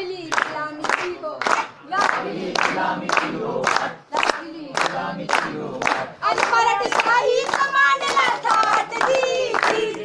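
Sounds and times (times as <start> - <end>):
crowd singing in unison: 1.8 - 10.0.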